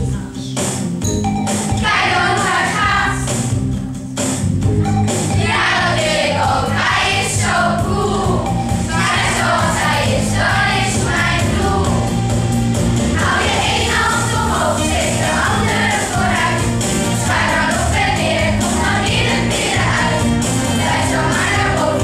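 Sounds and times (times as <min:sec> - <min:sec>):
backing track with bass line: 0:01.0 - 0:22.0
children singing: 0:01.8 - 0:03.3, 0:04.8 - 0:12.2, 0:13.1 - 0:22.0.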